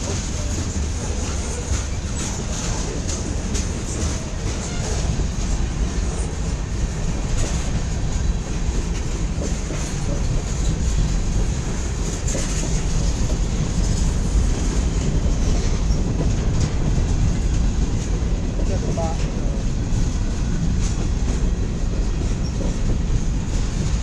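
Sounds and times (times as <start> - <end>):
freight train rolling past: 0.0 - 24.0
wheels clicking over rails: 0.0 - 24.0.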